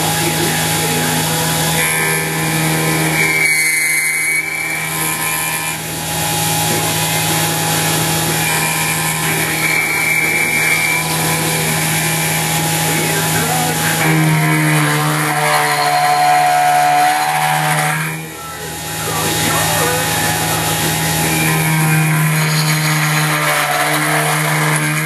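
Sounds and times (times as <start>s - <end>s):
high cutting whine: 0.0s - 25.0s
milling machine hum: 0.0s - 25.0s.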